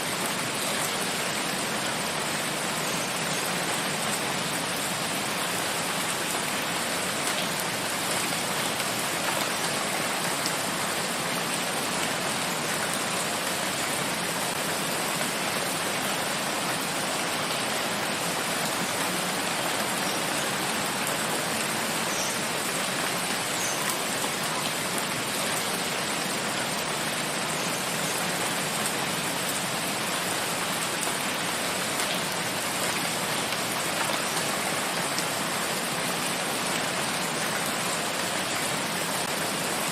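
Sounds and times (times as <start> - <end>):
steady rain falling on forest: 0.0 - 39.9.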